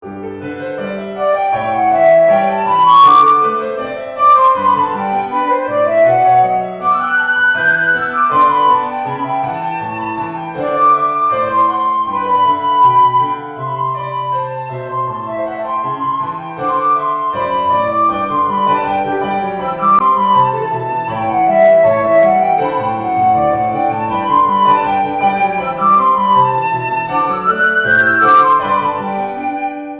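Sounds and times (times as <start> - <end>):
piano accompaniment: 0.0 - 29.9
flute melody: 0.4 - 29.9.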